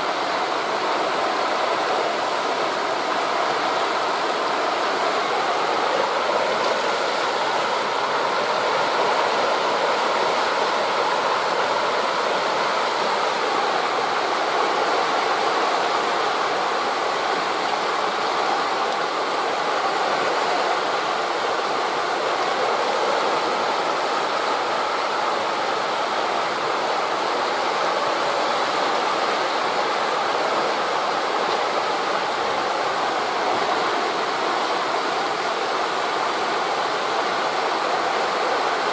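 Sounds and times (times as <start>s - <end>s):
surf on shore: 0.0s - 38.9s
wind in trees: 0.0s - 38.9s.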